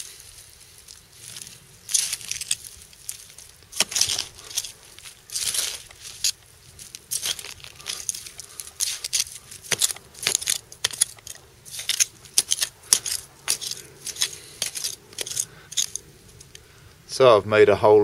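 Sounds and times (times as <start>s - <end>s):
hand digging in soil: 0.0s - 16.6s.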